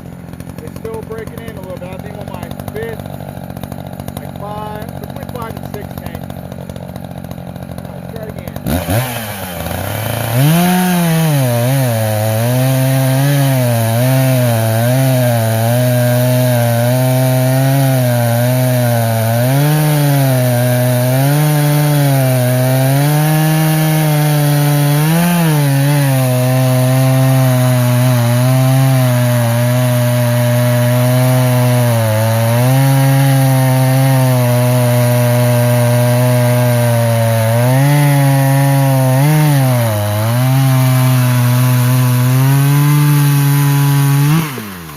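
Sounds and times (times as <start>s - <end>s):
chainsaw cutting through log: 0.0s - 44.9s.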